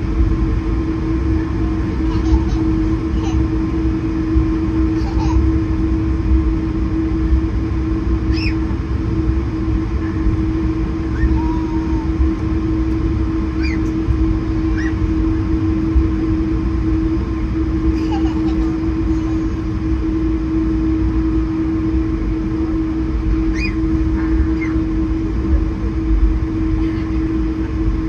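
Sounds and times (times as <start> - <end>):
airliner cabin rumble: 0.0 - 28.0
constant hum: 0.0 - 28.0.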